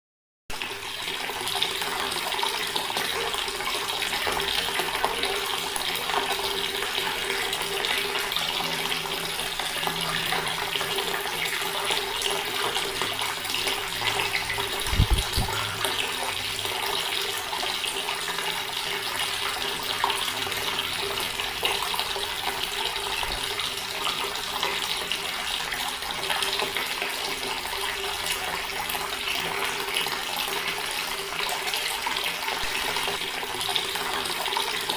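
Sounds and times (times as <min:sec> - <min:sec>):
water running from a tap: 0:00.5 - 0:34.9.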